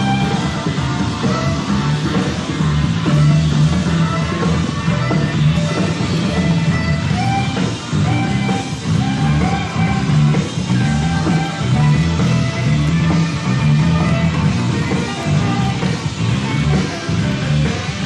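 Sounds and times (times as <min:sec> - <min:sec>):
live rock band music: 0:00.0 - 0:18.0.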